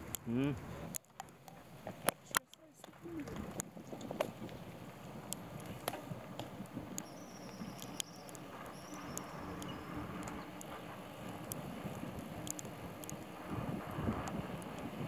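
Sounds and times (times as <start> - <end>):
bicycle tyres rumbling on asphalt: 0.0 - 15.0
bike clicks and rattles: 0.0 - 15.0.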